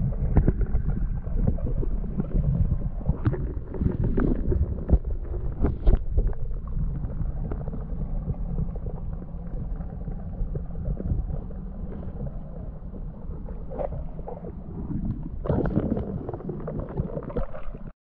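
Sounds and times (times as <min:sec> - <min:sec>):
muffled underwater rumble: 0:00.0 - 0:17.9.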